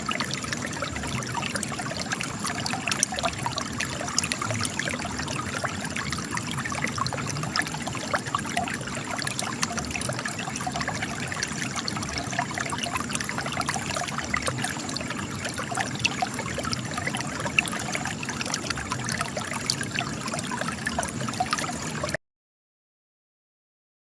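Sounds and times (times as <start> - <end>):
spring water trickling and splashing: 0.0 - 22.2.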